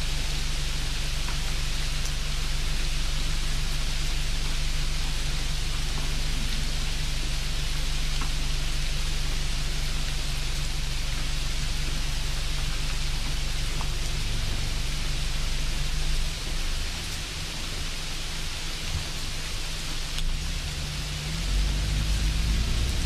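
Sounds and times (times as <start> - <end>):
low steady hum: 0.0 - 23.0
steady hiss: 0.0 - 23.0.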